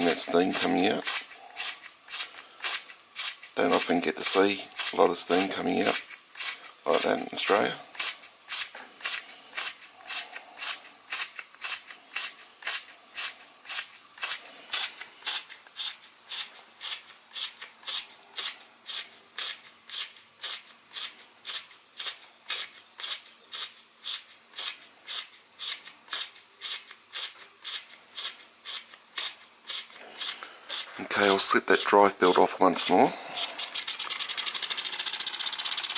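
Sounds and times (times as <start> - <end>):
toy steam engine chuffing: 0.0 - 35.9.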